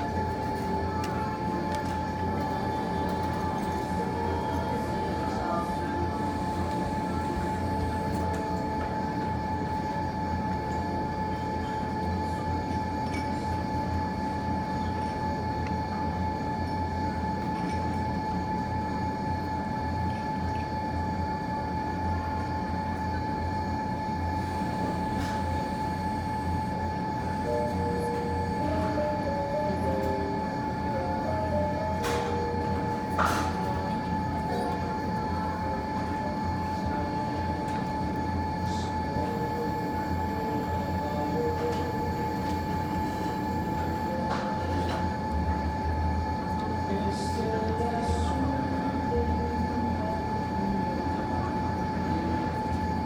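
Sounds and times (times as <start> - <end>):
ventilation fan running: 0.0 - 53.0.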